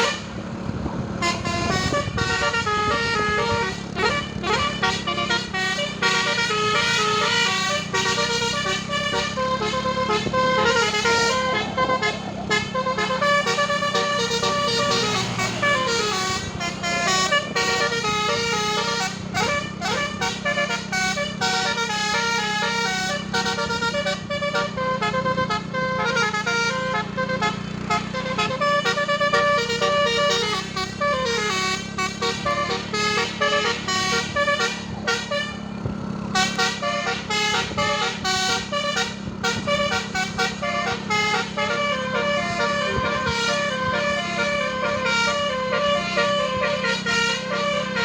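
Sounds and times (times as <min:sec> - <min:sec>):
steady low drone: 0:00.0 - 0:27.6, 0:36.3 - 0:48.0
multi-tone bus horn melody: 0:00.0 - 0:48.0.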